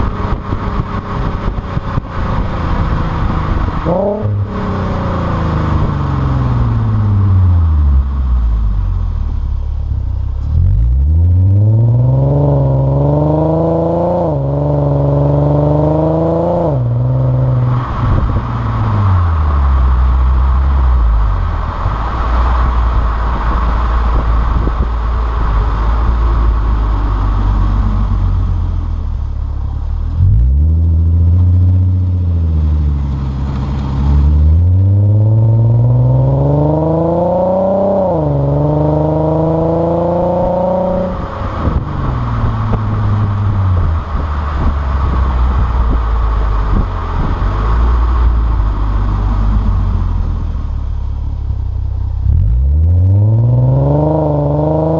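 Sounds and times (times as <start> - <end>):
car exhaust accelerating: 0.0 - 54.9
road noise: 0.0 - 54.9.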